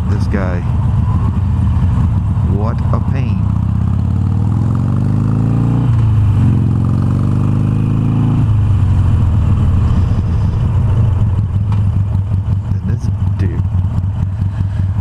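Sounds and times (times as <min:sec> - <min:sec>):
motorcycle accelerating: 0:00.0 - 0:15.0.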